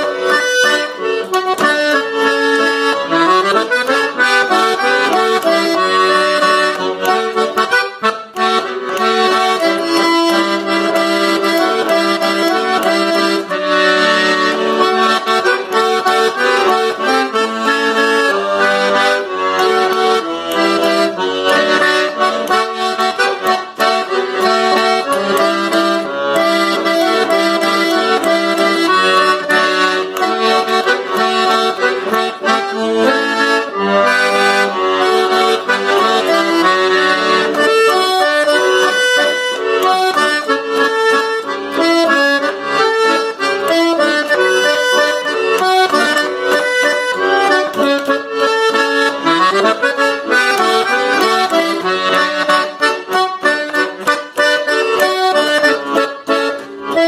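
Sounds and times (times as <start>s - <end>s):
accordion music: 0.0s - 57.0s.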